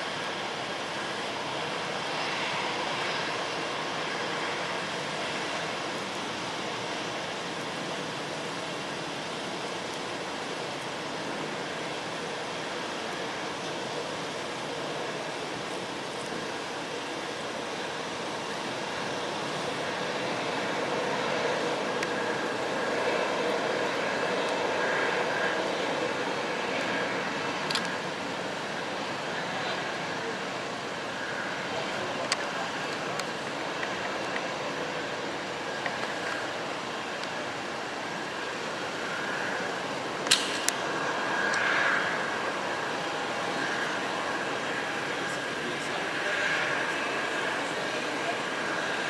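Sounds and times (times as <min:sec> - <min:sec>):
jet engines rushing: 0:00.0 - 0:49.0.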